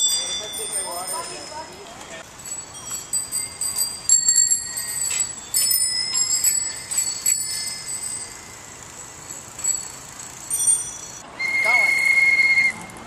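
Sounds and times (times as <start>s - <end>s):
bicycle bells ringing: 0.0s - 11.3s.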